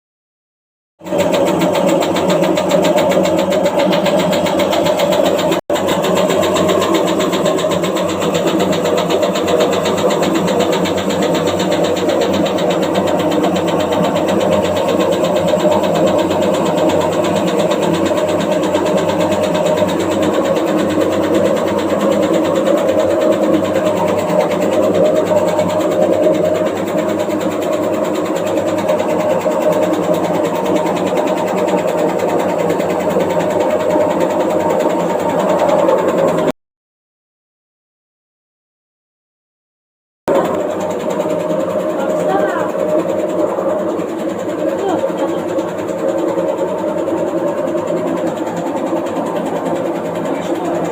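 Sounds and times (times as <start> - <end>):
washing machine rattling: 1.0 - 36.5, 40.3 - 50.9.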